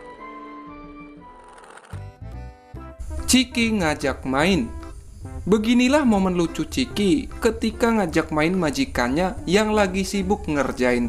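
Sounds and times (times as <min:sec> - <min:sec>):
background music held notes: 0:00.0 - 0:11.0.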